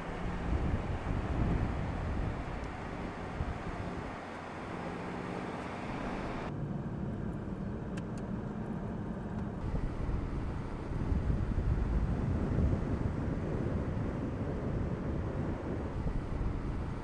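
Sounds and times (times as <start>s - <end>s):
car engine running: 0.0s - 6.5s, 9.2s - 17.0s
road and wind noise: 0.0s - 17.0s.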